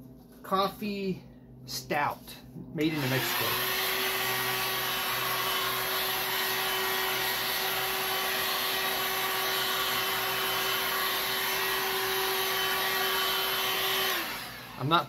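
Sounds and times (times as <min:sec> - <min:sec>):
heat gun motor hum and airflow: 0:02.8 - 0:15.0.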